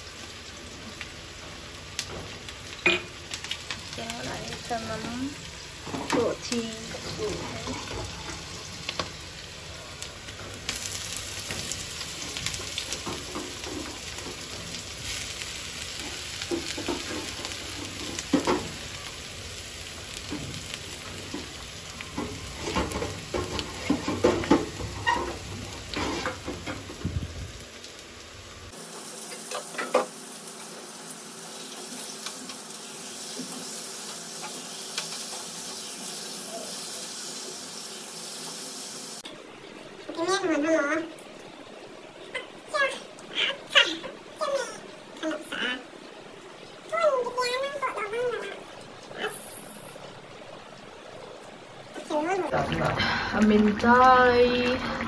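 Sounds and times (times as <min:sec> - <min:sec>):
curry sizzling in a pan: 0:00.0 - 0:55.0.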